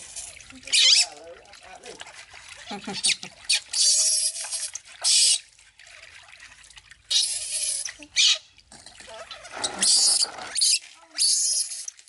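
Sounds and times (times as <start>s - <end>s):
water splashing in plastic basin: 0.0s - 12.0s.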